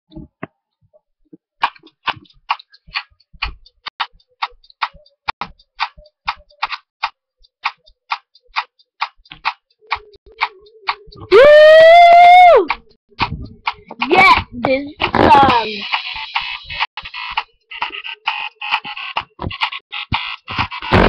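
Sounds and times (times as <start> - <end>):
sharp rhythmic clicks: 1.6 - 21.0.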